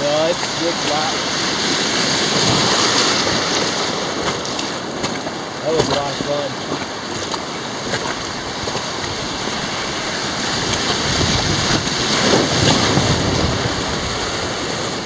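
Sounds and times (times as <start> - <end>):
rushing whitewater: 0.0 - 15.0
waves splashing against raft: 0.0 - 15.0.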